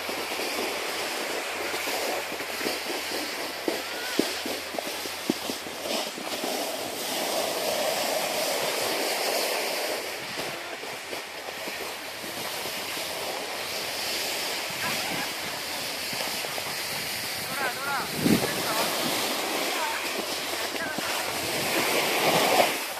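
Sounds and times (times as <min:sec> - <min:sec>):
skis sliding over packed snow: 0:00.0 - 0:22.9
wind on microphone: 0:00.0 - 0:22.9.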